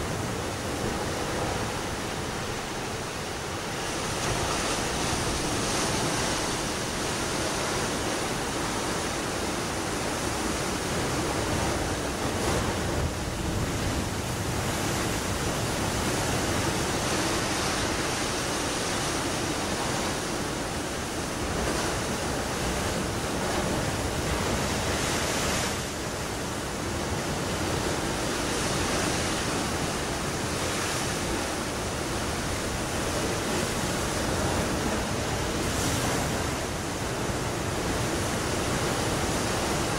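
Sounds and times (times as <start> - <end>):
breaking waves: 0.0 - 39.9.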